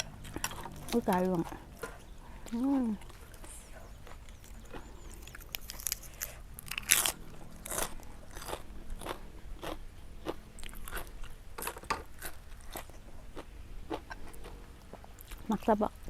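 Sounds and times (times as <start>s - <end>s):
chewing crisp food: 0.0s - 16.0s.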